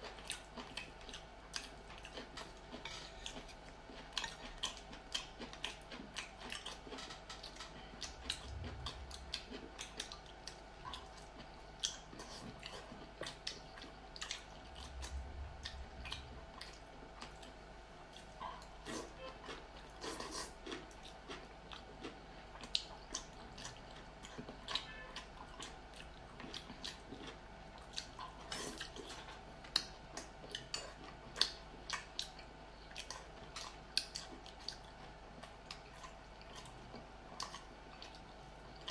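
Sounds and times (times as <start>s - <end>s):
chewing: 0.0s - 38.9s.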